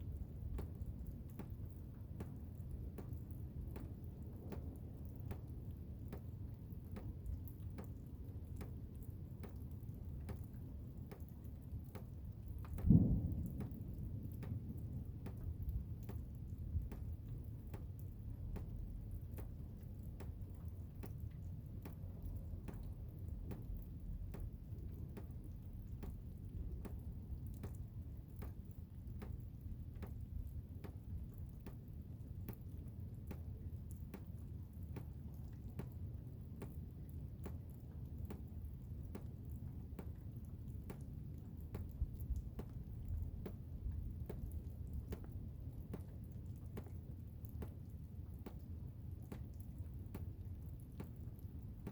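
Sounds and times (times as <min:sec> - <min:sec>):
faint regular ticks: 0:00.0 - 0:51.9.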